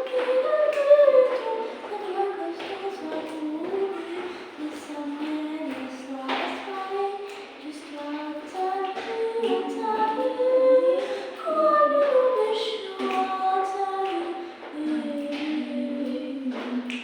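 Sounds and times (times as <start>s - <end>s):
young voices singing a cappella: 0.0s - 17.0s.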